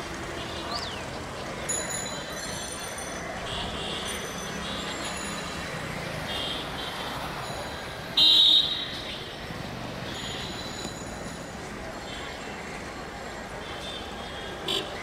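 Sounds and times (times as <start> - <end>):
city noise: 0.0 - 15.0
crowd noise: 0.0 - 15.0.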